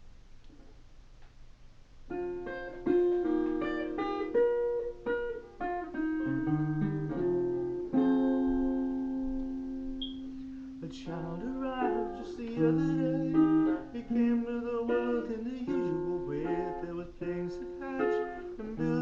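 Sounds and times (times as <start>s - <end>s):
acoustic guitar plucking: 2.1s - 19.0s.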